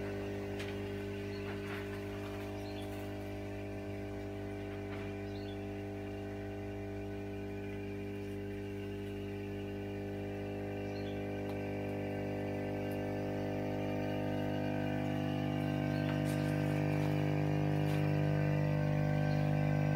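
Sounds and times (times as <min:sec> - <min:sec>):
electrical hum: 0:00.0 - 0:19.9.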